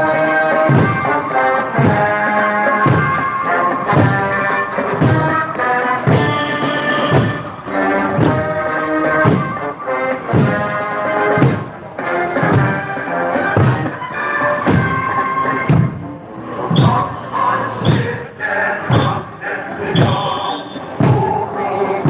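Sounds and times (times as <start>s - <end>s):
brass march tune: 0.0s - 22.0s
marching drums beating: 0.0s - 22.0s.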